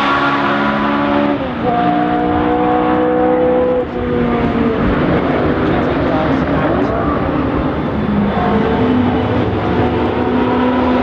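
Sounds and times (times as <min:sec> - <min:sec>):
racing car engines at high revs: 0:00.0 - 0:11.0.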